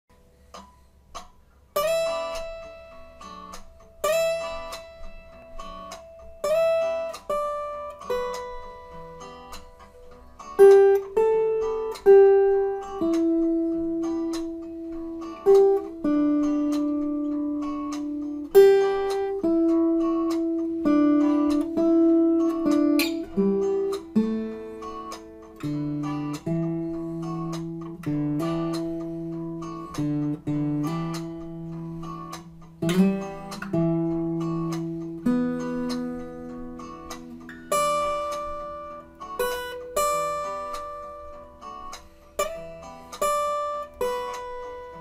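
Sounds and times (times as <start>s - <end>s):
acoustic guitar picked notes: 0.1s - 45.0s.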